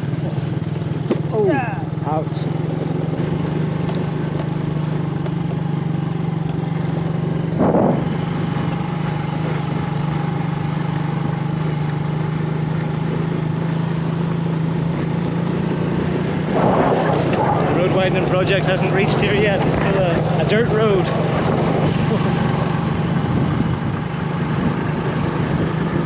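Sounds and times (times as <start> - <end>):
small motorcycle engine running: 0.0 - 26.0.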